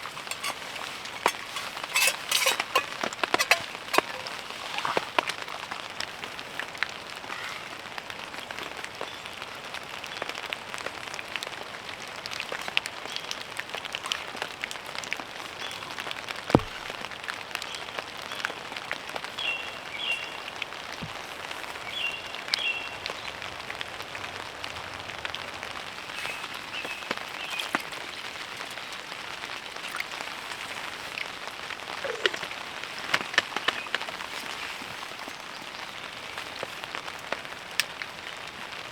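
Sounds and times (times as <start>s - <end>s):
rain pattering on a tarp: 0.0s - 38.9s.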